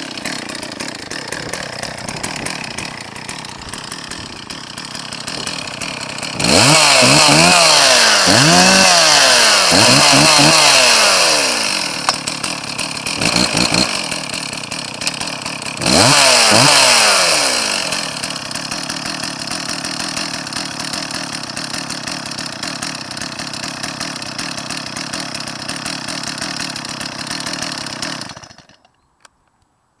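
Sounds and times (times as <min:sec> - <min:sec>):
chainsaw revving and idling: 0:00.0 - 0:29.0.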